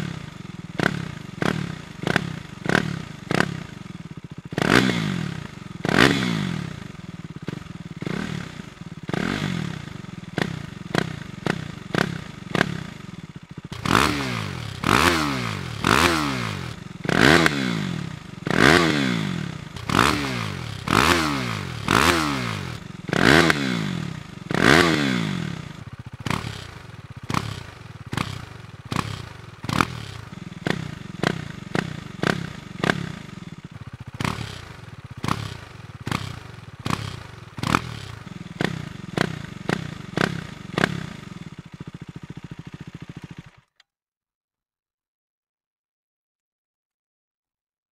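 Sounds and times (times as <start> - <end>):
motorcycle engine revving: 0.0 - 43.8.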